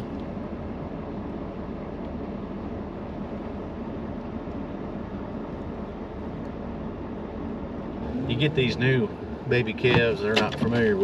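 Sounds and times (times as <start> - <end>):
truck engine low rumble: 0.0 - 11.0.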